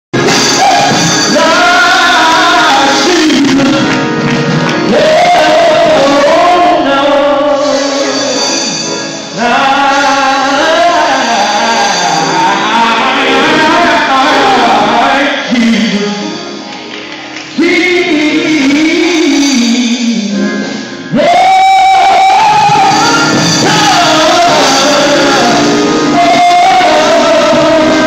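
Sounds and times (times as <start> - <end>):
musical accompaniment: 0.1 - 28.0
man singing gospel: 0.2 - 16.5, 17.5 - 28.0.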